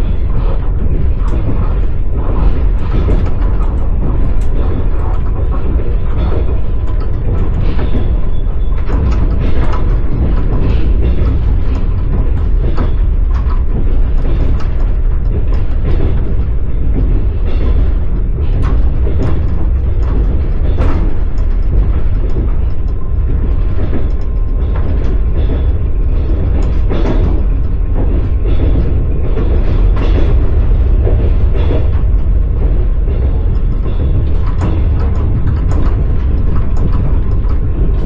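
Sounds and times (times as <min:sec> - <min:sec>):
train carriage rumbling: 0:00.0 - 0:38.0
train wheels clattering over rails: 0:00.0 - 0:38.0.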